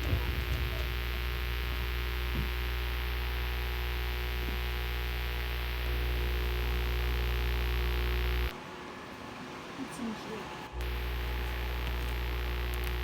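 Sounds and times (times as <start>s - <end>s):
high buzzing tones: 0.0s - 8.6s, 10.8s - 13.0s
low electrical hum: 0.0s - 8.6s, 10.7s - 13.0s.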